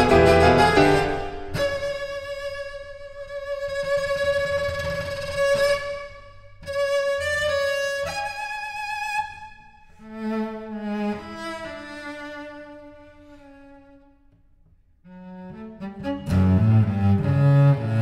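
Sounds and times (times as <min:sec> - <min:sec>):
cello playing: 0:00.0 - 0:14.4, 0:15.0 - 0:18.0.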